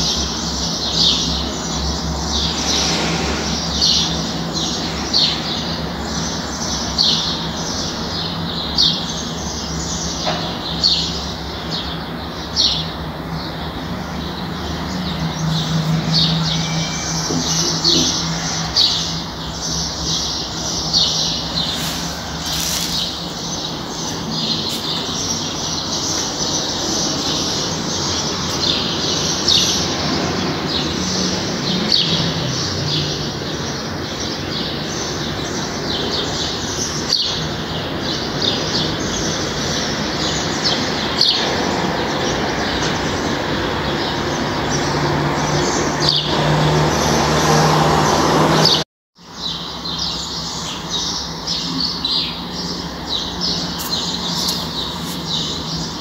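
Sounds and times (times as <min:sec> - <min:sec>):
birds chirping: 0:00.0 - 0:48.8, 0:49.4 - 0:56.0
street traffic hum: 0:00.0 - 0:56.0.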